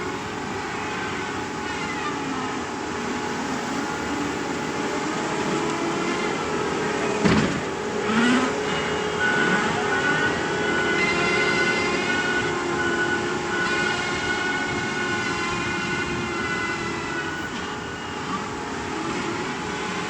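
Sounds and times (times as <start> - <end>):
excavator engine and hydraulics: 0.0 - 20.0
steady whine: 0.0 - 20.0.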